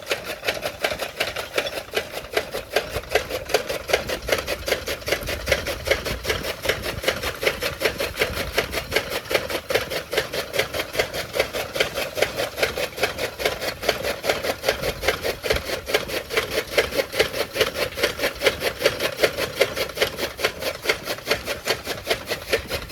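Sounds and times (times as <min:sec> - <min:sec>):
chaff cutter chopping fodder: 0:00.0 - 0:22.9.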